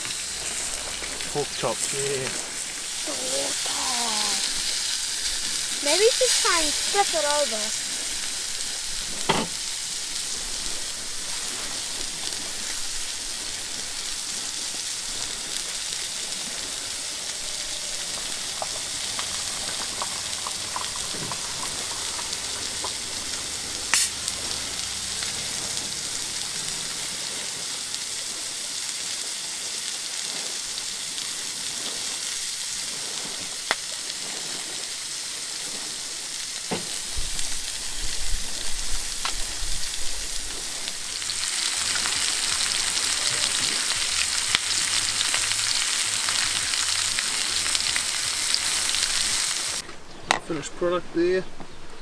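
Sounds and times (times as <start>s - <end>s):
meat sizzling in a frying pan: 0.0s - 49.8s.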